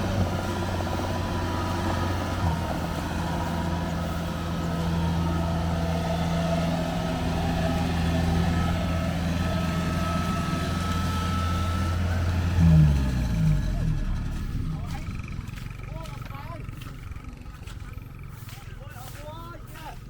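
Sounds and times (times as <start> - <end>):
diesel engine running steadily: 0.0 - 20.0.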